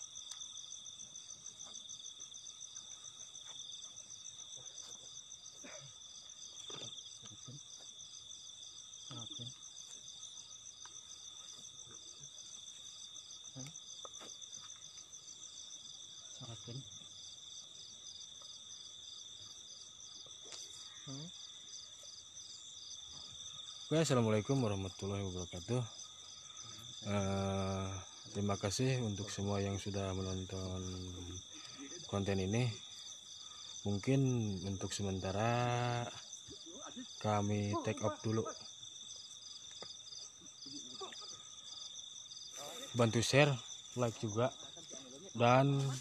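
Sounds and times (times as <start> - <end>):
night insects calling: 0.0 - 46.0.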